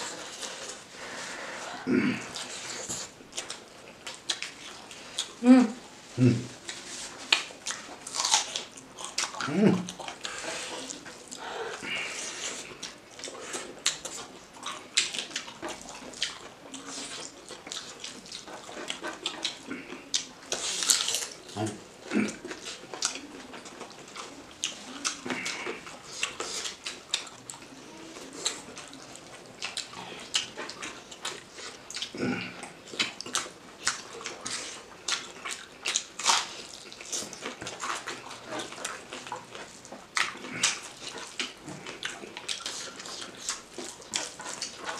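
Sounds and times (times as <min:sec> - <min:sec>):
wet chewing and lip smacks: 0:02.3 - 0:05.4, 0:06.6 - 0:44.9.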